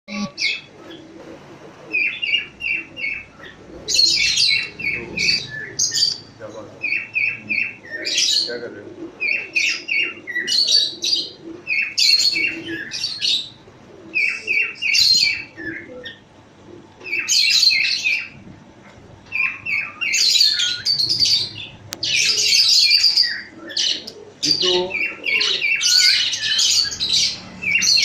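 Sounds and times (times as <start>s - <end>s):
bird calling with harsh squawk: 0.1s - 18.4s, 19.3s - 28.0s.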